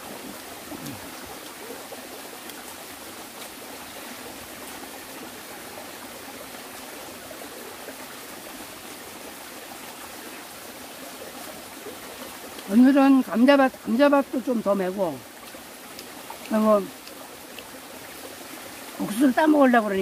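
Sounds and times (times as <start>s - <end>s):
stream running over rocks: 0.0s - 20.0s.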